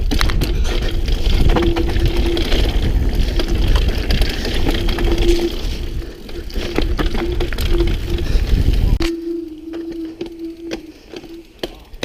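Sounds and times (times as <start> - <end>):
bike rattling on rough trail: 0.0 - 12.0
steady buzzing tone: 0.8 - 12.0.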